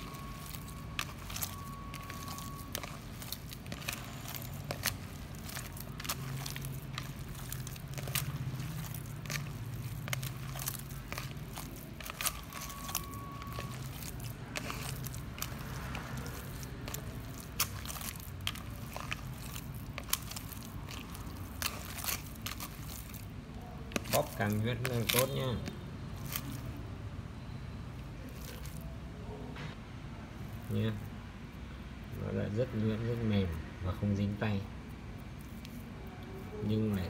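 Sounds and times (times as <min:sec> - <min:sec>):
hand squishing wet bread: 0:00.0 - 0:26.9, 0:27.8 - 0:29.1, 0:30.3 - 0:37.0.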